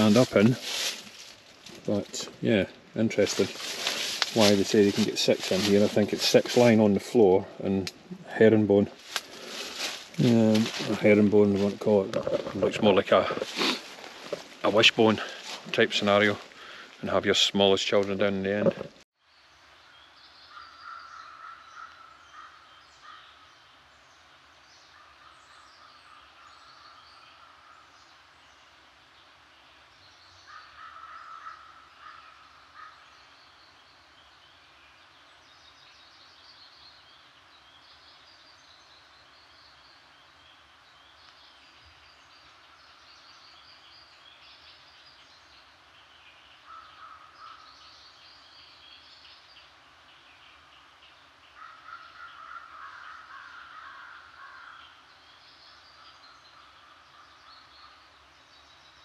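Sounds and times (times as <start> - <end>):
faint bird calls: 0.0 - 17.3, 20.3 - 29.4, 30.0 - 59.0.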